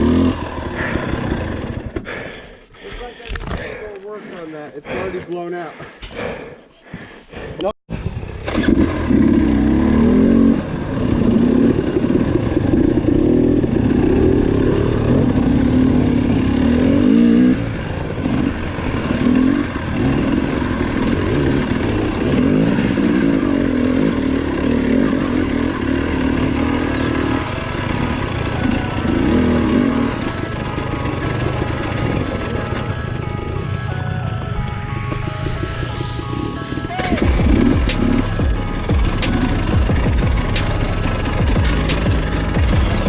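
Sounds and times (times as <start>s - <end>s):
dirt bike engine revving: 0.0s - 2.0s, 7.9s - 33.7s, 35.2s - 43.0s.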